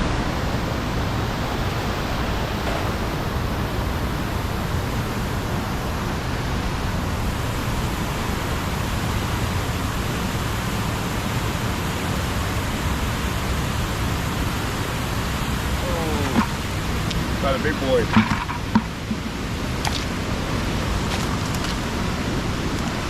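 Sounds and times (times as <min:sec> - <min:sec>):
floodwater rushing through spillway: 0:00.0 - 0:23.0.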